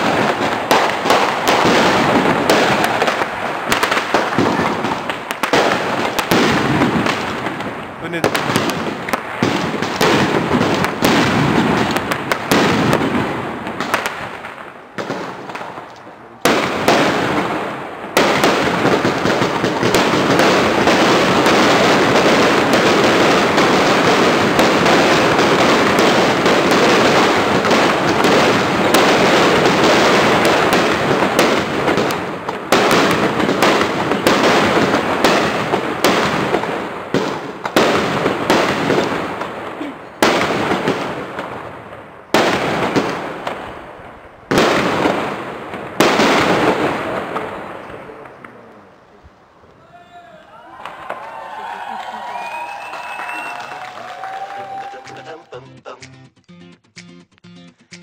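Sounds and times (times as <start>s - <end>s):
firework bangs and crackle: 0.0s - 55.4s.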